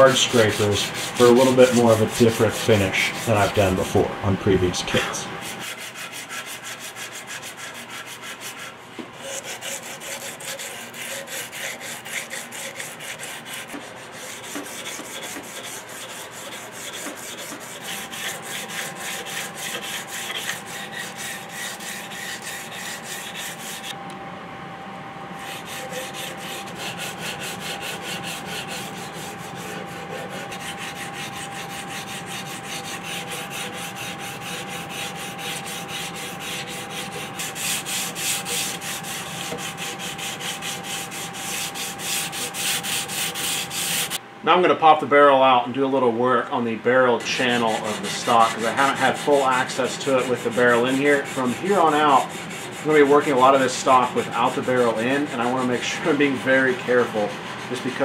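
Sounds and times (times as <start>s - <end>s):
sandpaper rubbing on wood: 0.0s - 4.1s, 5.0s - 23.9s, 25.4s - 44.2s, 47.2s - 58.0s.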